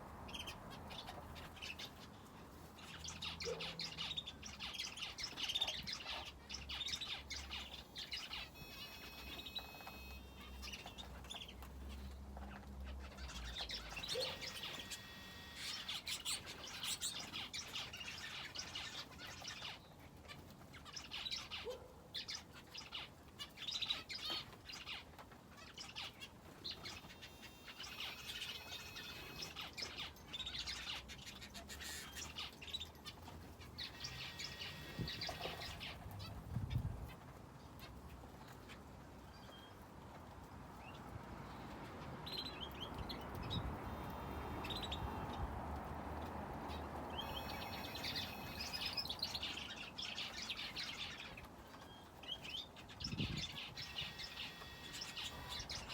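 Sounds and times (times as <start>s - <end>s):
finches and canary chirping: 0.0s - 39.9s, 40.8s - 55.9s.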